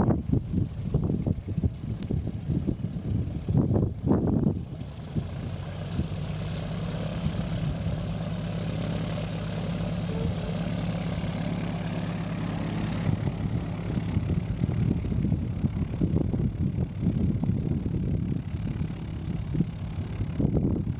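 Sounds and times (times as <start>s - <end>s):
propeller plane engine droning: 0.0s - 20.9s.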